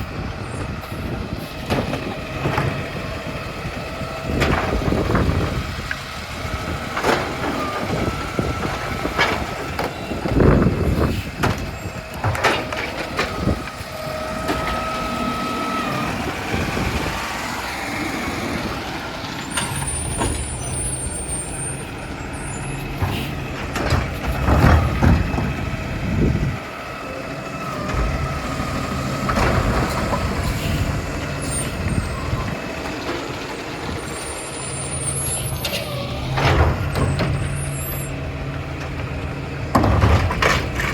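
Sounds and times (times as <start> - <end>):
diesel engine rumble: 0.0 - 40.9
truck whine: 0.0 - 40.9.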